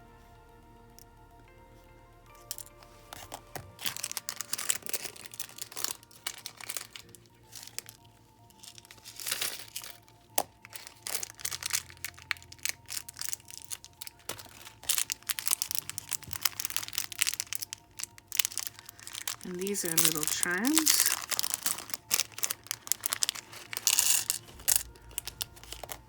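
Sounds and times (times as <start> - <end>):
soft background music: 0.0 - 26.0
plastic packaging crinkling: 2.3 - 26.0.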